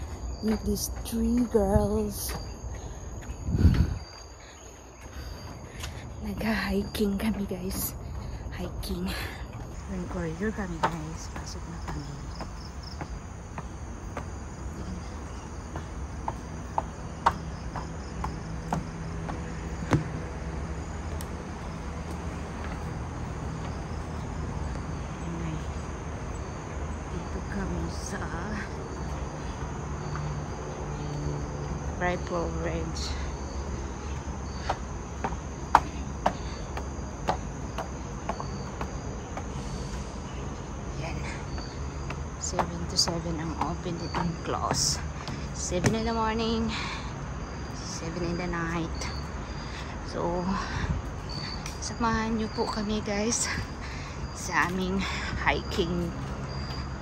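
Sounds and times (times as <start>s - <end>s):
footsteps on walkway: 0.0s - 57.0s
insects droning: 0.0s - 57.0s.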